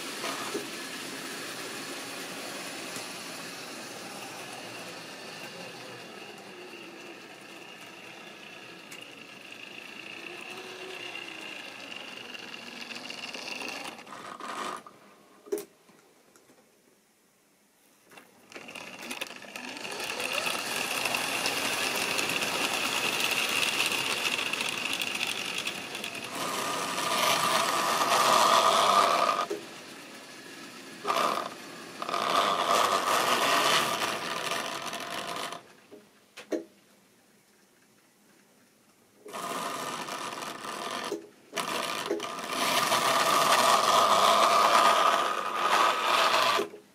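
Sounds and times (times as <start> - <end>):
electric motor whine: 0.0 - 14.9, 18.6 - 29.6, 31.0 - 35.7, 39.3 - 46.8.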